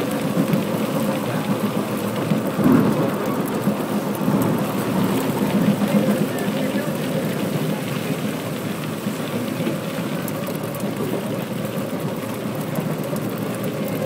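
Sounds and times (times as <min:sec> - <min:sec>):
train rumble from inside carriage: 0:00.0 - 0:14.0.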